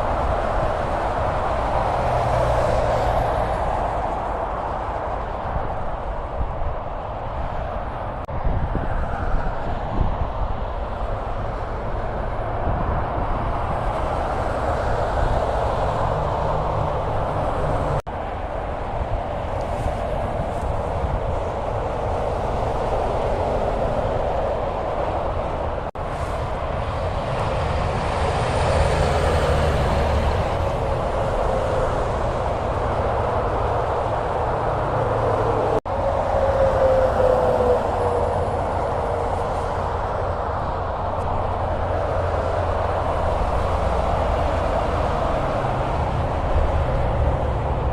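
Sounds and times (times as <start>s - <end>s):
highway traffic: 0.0s - 47.9s.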